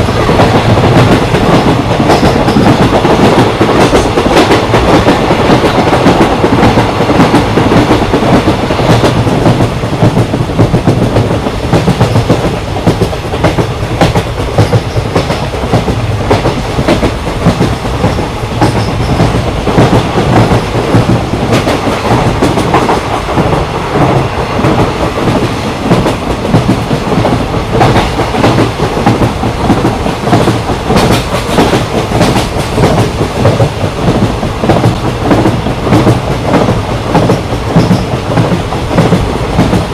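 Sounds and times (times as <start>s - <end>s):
train wheels clattering over rail joints: 0.0s - 39.9s.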